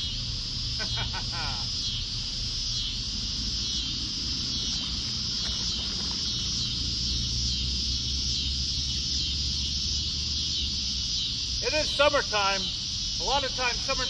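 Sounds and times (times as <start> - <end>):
insects trilling: 0.0 - 14.0
low steady rumble: 0.0 - 14.0.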